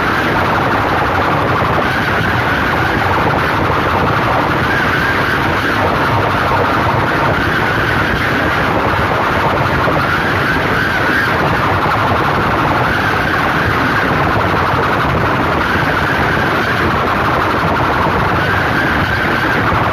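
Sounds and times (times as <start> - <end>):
distorted loudspeakers blaring: 0.0 - 19.9.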